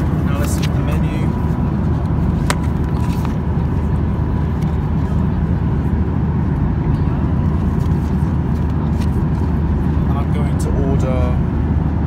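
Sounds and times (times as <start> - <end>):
airplane cabin airflow and engine drone: 0.0 - 12.0.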